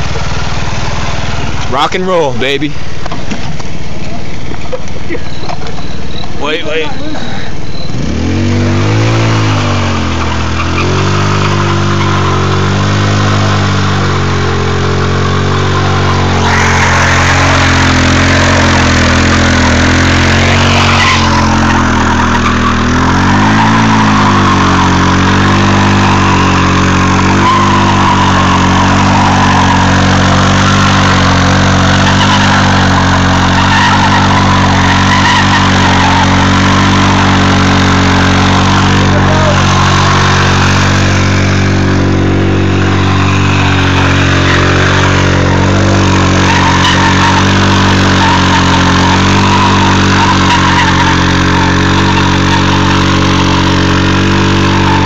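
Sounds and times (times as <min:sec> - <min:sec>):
spinning tyre rushing noise: 0:00.0 - 0:55.0
scooter engine revving high: 0:06.0 - 0:55.0.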